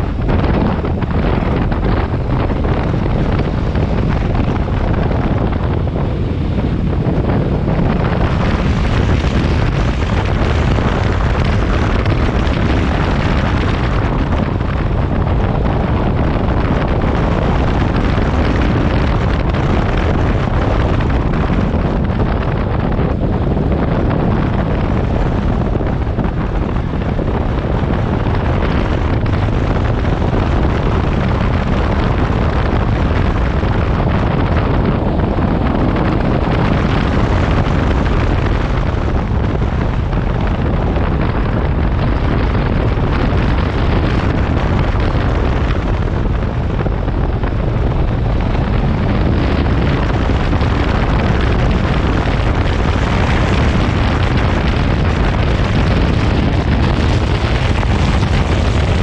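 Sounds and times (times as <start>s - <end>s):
motorcycle engine and tyres: 0.0s - 59.0s
wind rushing over microphone: 0.0s - 59.0s.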